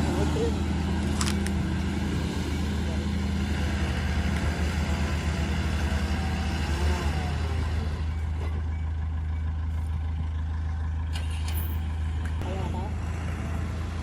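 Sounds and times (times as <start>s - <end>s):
heavy diesel engine droning: 0.0s - 14.0s.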